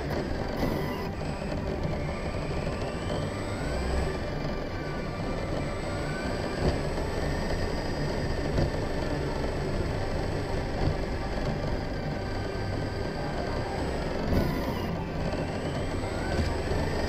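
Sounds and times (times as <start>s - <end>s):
toy truck driving on concrete: 0.0s - 17.0s.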